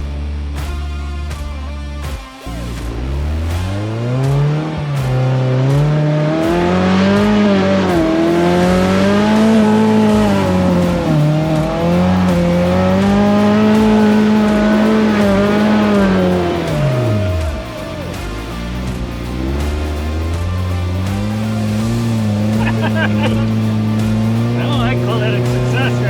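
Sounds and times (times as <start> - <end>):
engine revving hard: 2.1 - 26.0.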